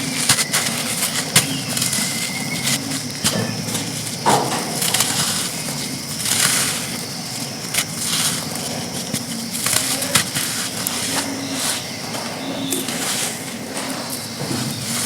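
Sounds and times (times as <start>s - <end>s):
sand chunks crunching and crumbling: 0.0s - 15.0s.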